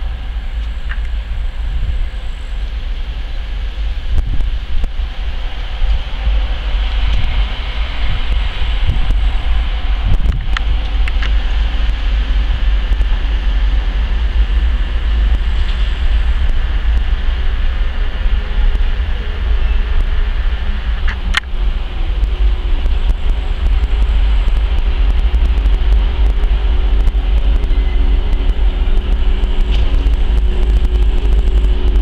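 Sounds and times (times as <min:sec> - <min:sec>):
diesel engine rumble: 0:00.0 - 0:32.0
turbocharger whine: 0:00.0 - 0:32.0.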